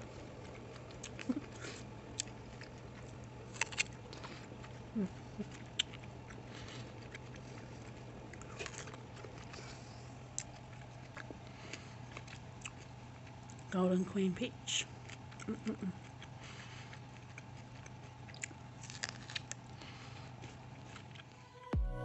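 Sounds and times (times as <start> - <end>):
person chewing juicy fruit: 0.0 - 21.5.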